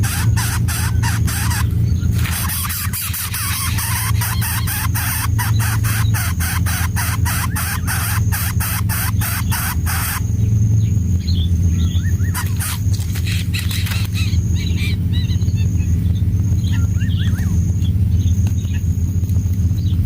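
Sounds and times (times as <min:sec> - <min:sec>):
nestlings hissing begging calls: 0:00.0 - 0:19.0
high insect-like tone: 0:00.0 - 0:19.8
faint bird chirps: 0:00.0 - 0:20.0
low rumble: 0:00.0 - 0:20.0.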